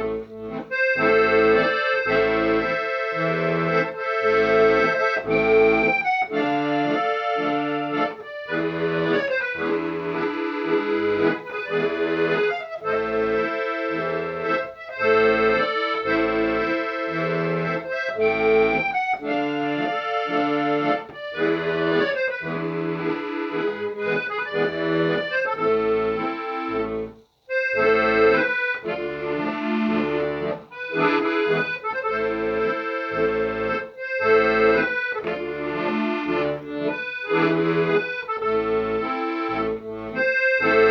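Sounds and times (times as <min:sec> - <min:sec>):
accordion music: 0:00.0 - 0:40.9.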